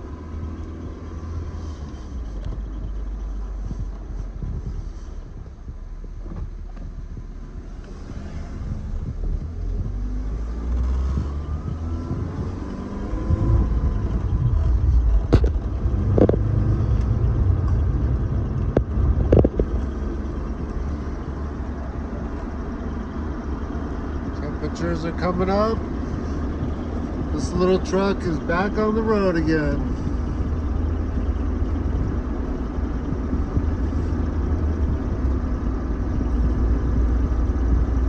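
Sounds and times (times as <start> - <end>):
truck engine accelerating: 0.0 - 38.0.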